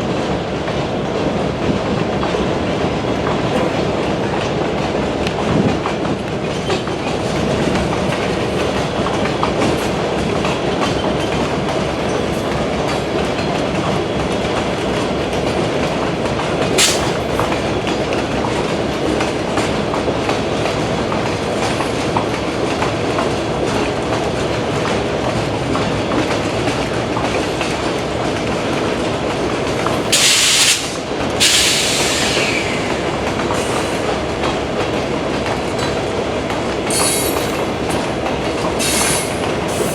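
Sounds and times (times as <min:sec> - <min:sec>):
train wheels clicking over rails: 0:00.0 - 0:39.9.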